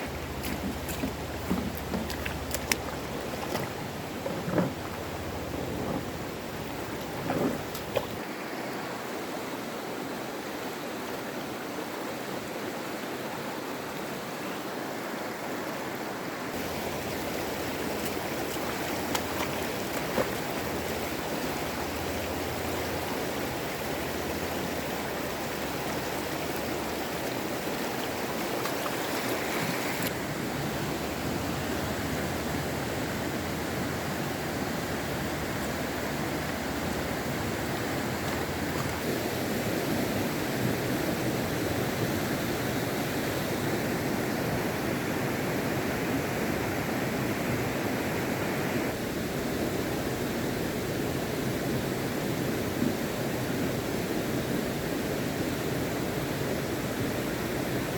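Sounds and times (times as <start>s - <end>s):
flowing water rushing: 0.0s - 57.9s.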